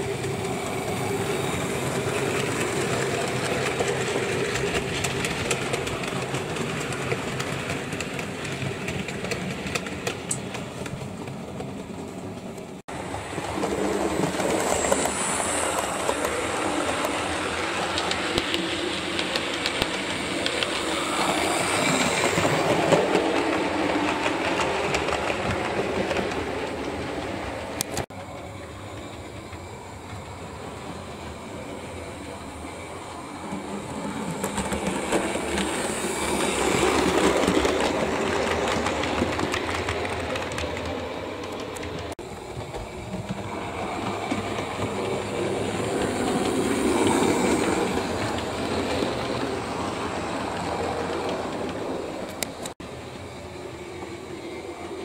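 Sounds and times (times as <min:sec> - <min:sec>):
model train wheels clicking: 0:00.0 - 0:12.8, 0:13.4 - 0:52.8
model train humming: 0:00.0 - 0:55.0.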